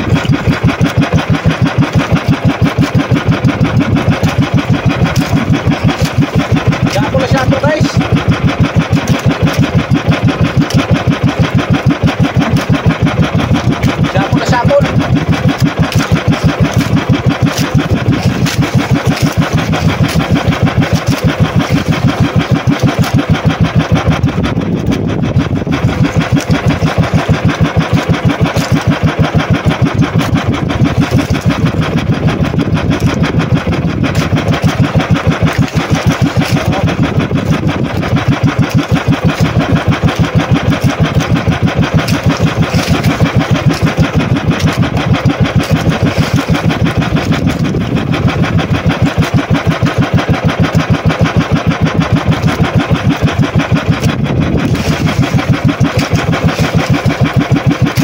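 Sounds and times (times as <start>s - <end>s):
boat engine chugging: 0.0s - 58.0s.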